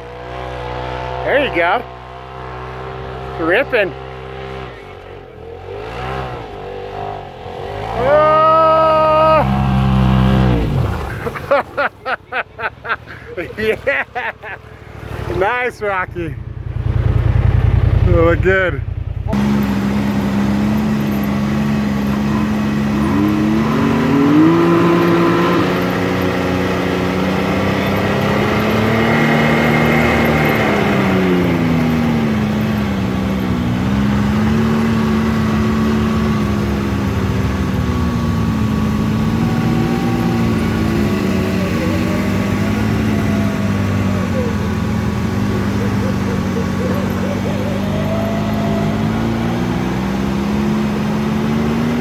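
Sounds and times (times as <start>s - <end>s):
utility vehicle engine revving: 0.0s - 52.0s.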